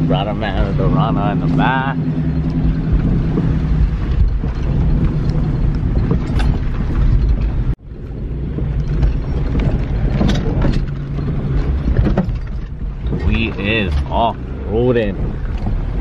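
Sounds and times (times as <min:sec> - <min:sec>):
engine and tyre rumble: 0:00.0 - 0:16.0
interior rattles and knocks: 0:00.0 - 0:16.0.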